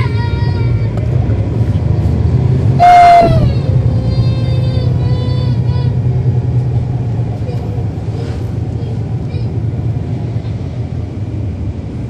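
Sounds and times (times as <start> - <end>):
diesel bus engine rumbling: 0.0 - 12.0.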